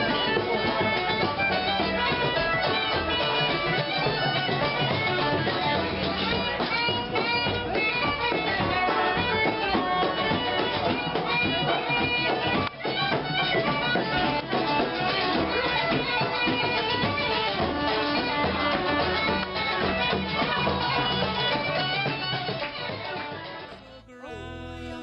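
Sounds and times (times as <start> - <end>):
instrumental folk music: 0.0 - 25.0.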